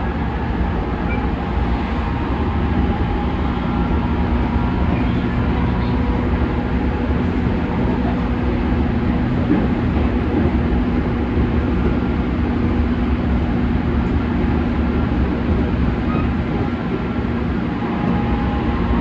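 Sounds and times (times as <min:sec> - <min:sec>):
train car running rumble: 0:00.0 - 0:19.0.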